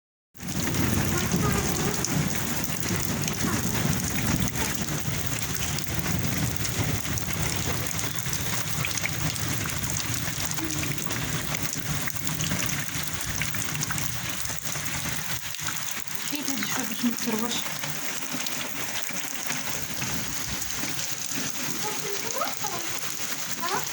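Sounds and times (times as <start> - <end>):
rain falling: 0.4 - 23.9.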